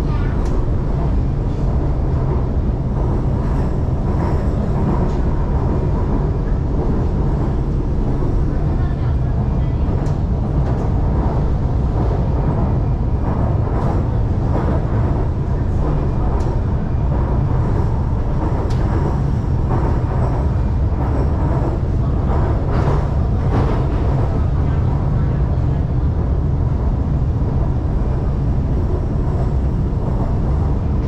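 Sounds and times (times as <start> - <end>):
train running noise: 0.0 - 31.0
train wheels rumbling on rails: 0.0 - 31.0.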